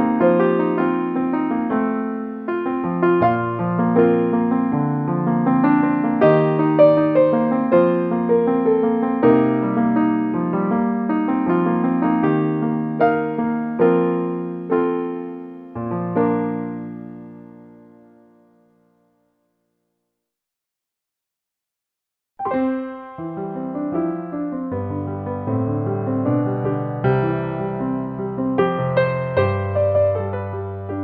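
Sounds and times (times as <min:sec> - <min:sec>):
piano piece: 0:00.0 - 0:19.3, 0:22.4 - 0:31.0.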